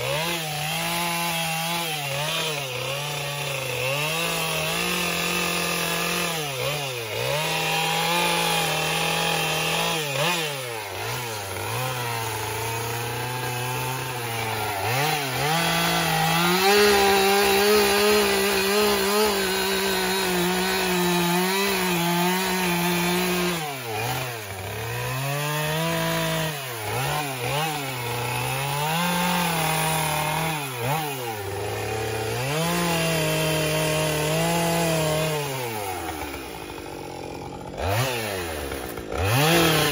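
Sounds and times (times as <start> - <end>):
chainsaw revving cutting wood: 0.0 - 39.9.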